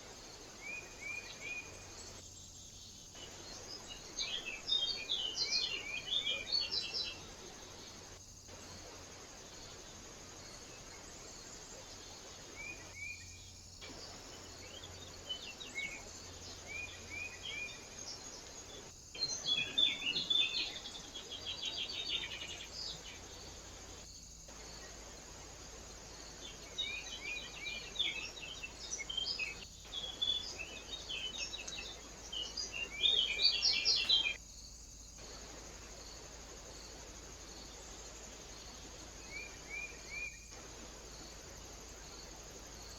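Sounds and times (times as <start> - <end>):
background hiss: 0.0 - 42.9
small birds chirping: 0.0 - 42.9.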